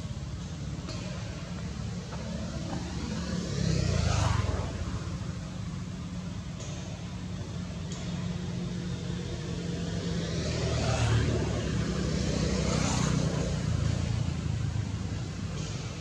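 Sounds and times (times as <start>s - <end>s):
distant engine hum: 0.0s - 16.0s.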